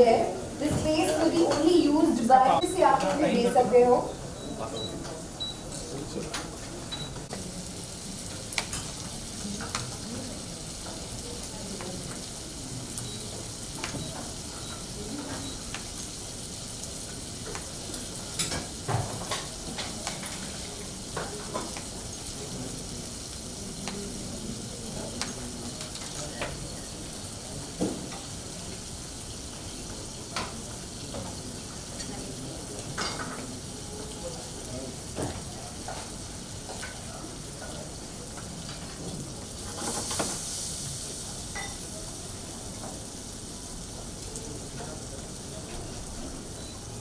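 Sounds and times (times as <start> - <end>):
vegetables sizzling in a pan: 0.0 - 47.0.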